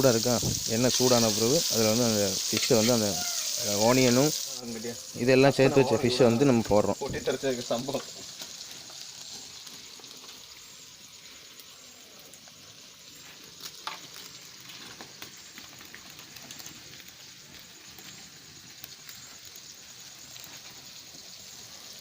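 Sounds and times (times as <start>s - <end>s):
fish frying in oil: 0.0s - 22.0s.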